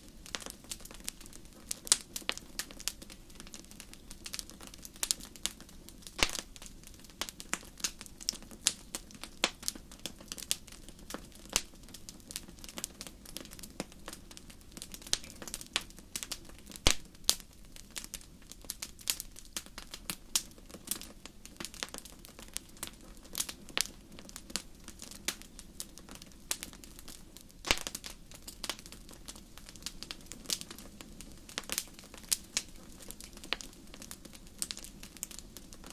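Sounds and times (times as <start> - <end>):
fire hissing: 0.0 - 35.9
wood fire crackling: 0.0 - 35.9.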